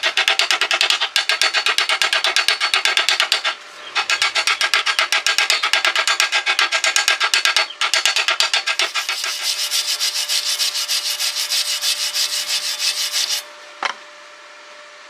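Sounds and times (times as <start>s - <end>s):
hand tool rasping a workpiece: 0.0s - 13.4s.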